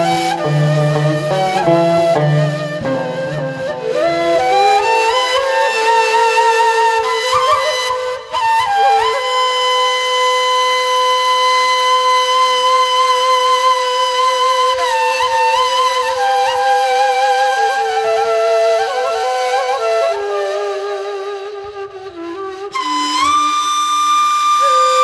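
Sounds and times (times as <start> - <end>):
end-blown flute melody: 0.0 - 25.0.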